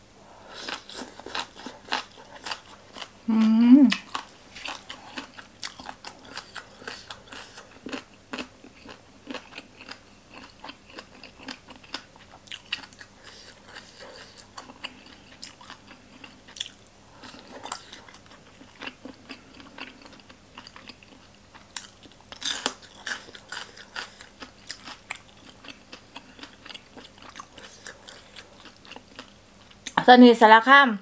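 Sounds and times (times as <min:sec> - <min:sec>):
crunchy chewing: 0:00.4 - 0:30.0.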